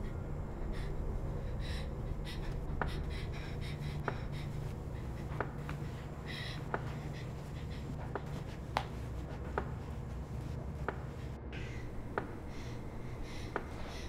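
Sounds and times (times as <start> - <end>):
low steady drone: 0.0 - 14.0
woman breathing quickly: 0.0 - 14.0.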